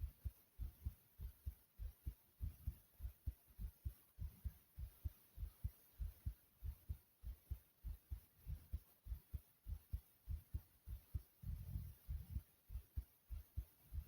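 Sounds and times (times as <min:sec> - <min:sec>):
heartbeat thumps: 0:00.0 - 0:14.0.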